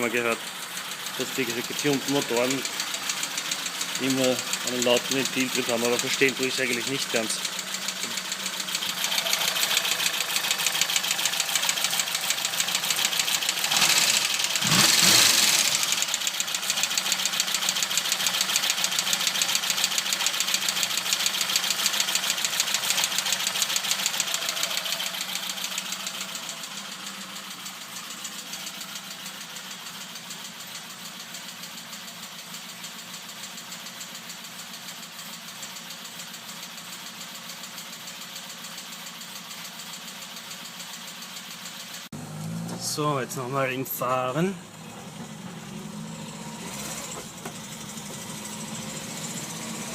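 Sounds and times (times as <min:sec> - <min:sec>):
fast steady engine ticking: 0:00.0 - 0:42.2, 0:42.8 - 0:49.9
car engine idling: 0:00.0 - 0:49.9.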